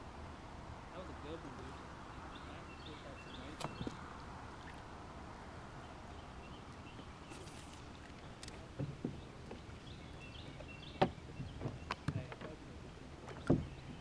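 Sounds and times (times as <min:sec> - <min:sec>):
low steady hiss: 0:00.0 - 0:14.0.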